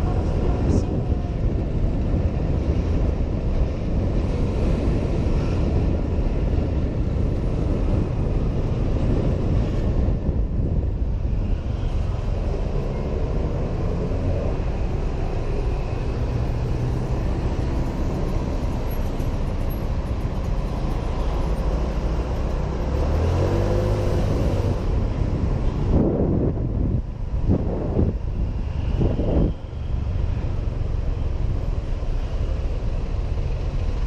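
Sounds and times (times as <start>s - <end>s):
road traffic: 0.0s - 34.0s
wind rumble on microphone: 0.0s - 34.0s.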